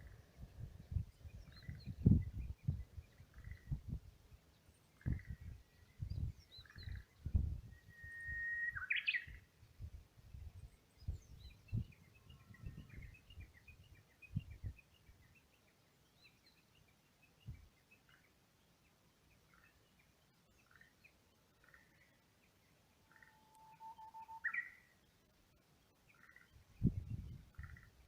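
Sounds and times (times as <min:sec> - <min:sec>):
birds singing: 0:00.0 - 0:03.9, 0:04.6 - 0:09.5, 0:10.5 - 0:18.4, 0:19.3 - 0:25.2, 0:25.8 - 0:28.0.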